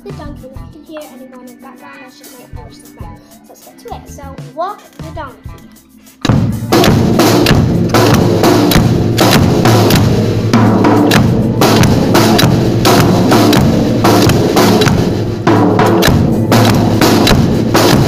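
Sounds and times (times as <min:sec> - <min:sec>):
snare and bass drum rhythm: 0:00.0 - 0:18.0.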